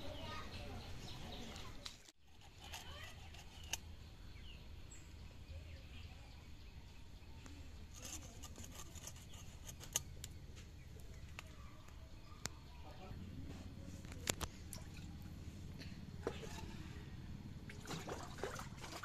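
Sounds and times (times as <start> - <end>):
birds chirping: 0.0 - 18.3
low steady hum: 0.1 - 19.0.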